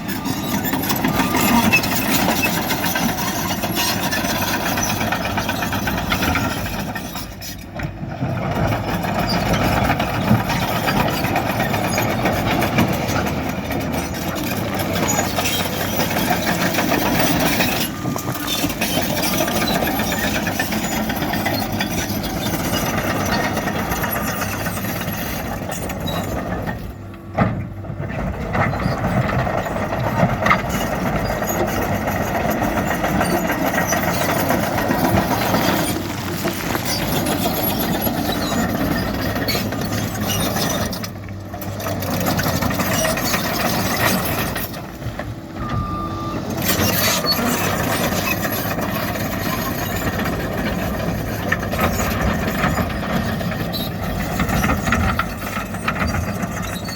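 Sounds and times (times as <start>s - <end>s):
diesel machinery engine rumble: 0.0s - 56.9s.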